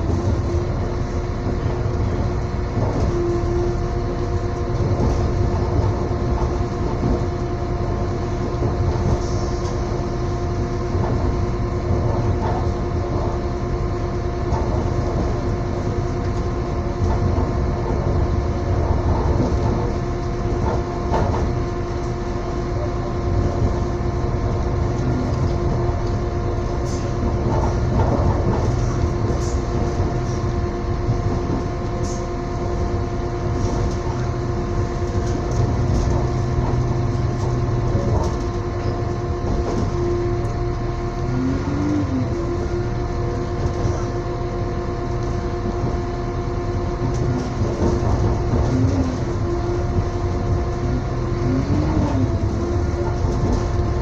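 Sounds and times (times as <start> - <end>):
steady hum: 0.0 - 54.0
train rumble: 0.0 - 54.0.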